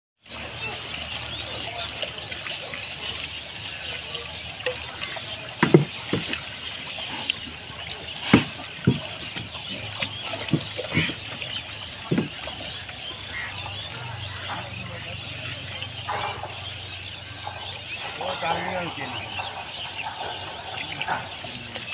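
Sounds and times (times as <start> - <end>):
low splashes: 0.3 - 21.9
water sloshing: 0.3 - 21.9.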